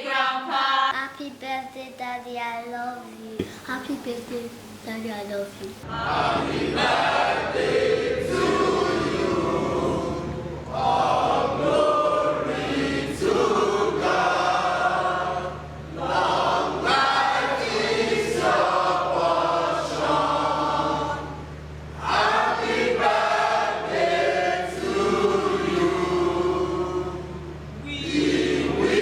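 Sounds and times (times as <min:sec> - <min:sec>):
choir singing: 0:00.0 - 0:00.9, 0:05.8 - 0:29.0.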